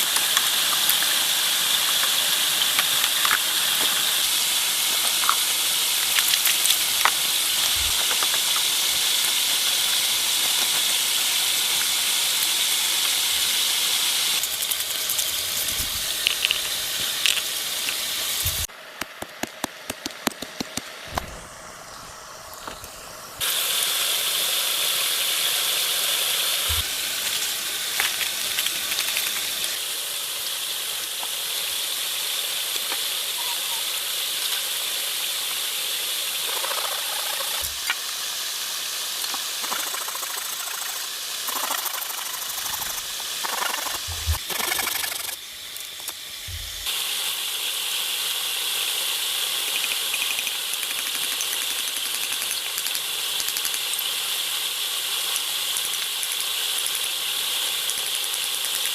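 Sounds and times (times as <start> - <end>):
outdoor hiss: 0.0 - 58.9.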